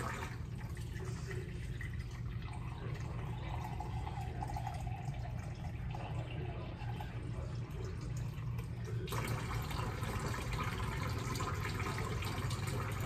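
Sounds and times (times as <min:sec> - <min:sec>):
low steady hum: 0:00.0 - 0:13.0
water pouring and splashing: 0:00.0 - 0:13.0.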